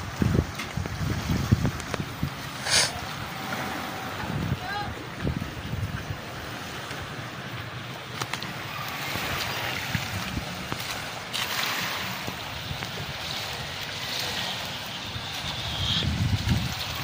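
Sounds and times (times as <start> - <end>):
gentle surf: 0.0 - 17.0
wind: 0.0 - 17.0
wind rumbling on microphone: 0.0 - 17.0.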